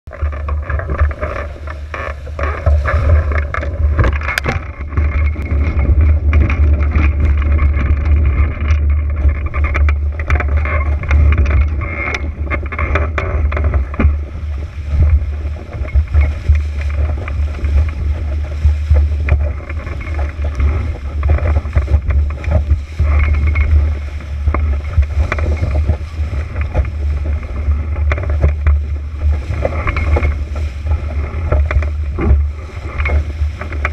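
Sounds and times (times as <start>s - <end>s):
water rushing past hull: 0.1s - 33.9s
wind buffeting microphone: 0.1s - 33.9s
spray slapping against hull: 0.5s - 33.9s.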